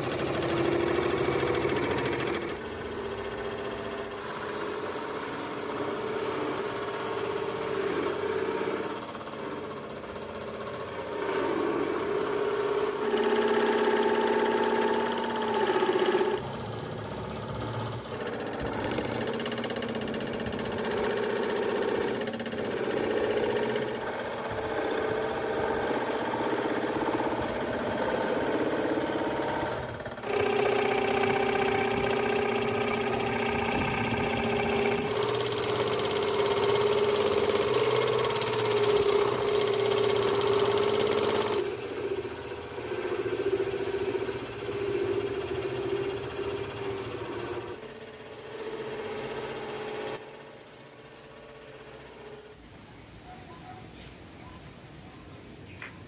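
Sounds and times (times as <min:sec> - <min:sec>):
scroll saw cutting plywood: 0:00.0 - 0:52.6.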